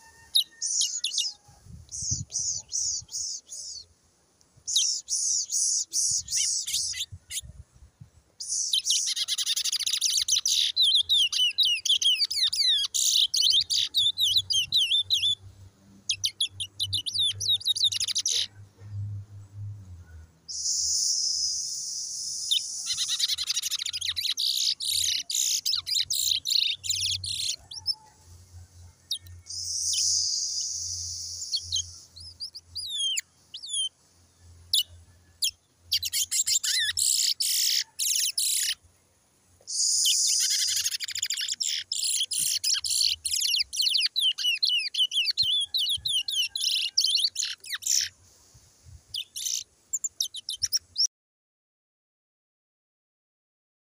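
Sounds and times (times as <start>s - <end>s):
finch twittering song: 0.0s - 3.9s, 4.6s - 7.6s, 8.4s - 18.6s, 20.5s - 28.1s, 29.0s - 38.8s, 39.7s - 48.2s, 49.1s - 51.1s.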